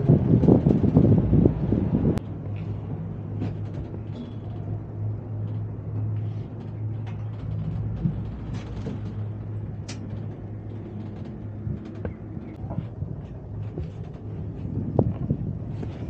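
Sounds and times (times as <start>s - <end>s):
cable car cabin hum: 0.0s - 16.0s.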